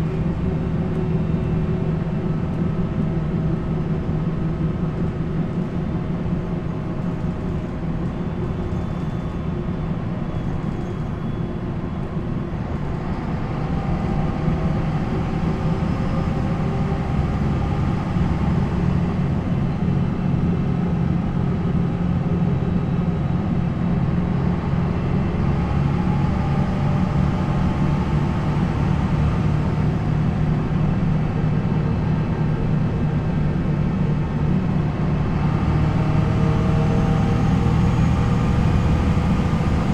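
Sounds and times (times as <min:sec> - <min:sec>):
city bus diesel engine running: 0:00.0 - 0:39.9.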